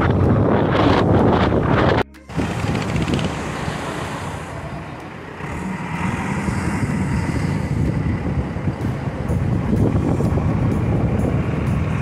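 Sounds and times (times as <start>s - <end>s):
diesel engine rumbling under load: 0.0s - 12.0s.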